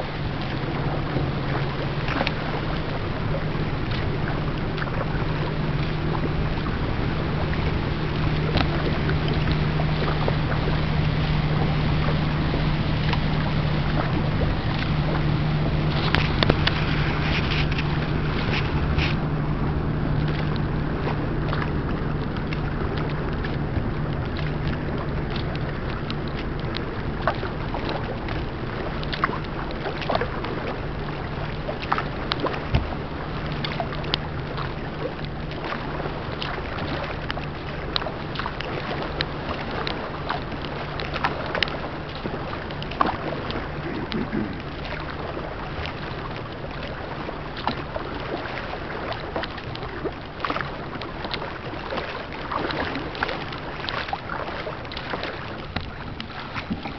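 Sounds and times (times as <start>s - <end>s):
low steady hum: 0.0s - 56.9s
water splashing against kayak hull: 0.0s - 56.9s
wind and water rushing: 0.0s - 56.9s.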